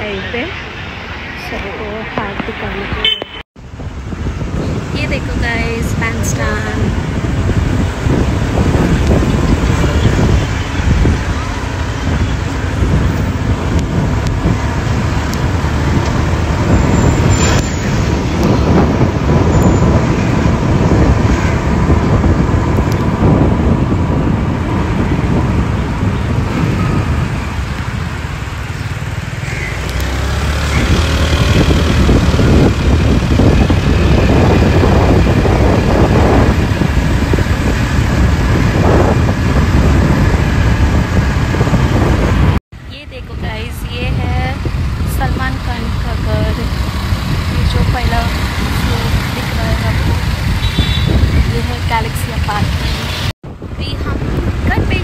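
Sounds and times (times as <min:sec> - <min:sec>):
road noise: 0:00.0 - 0:55.0
wind buffeting microphone: 0:00.0 - 0:55.0
motorcycle engine: 0:04.7 - 0:42.6, 0:43.9 - 0:55.0.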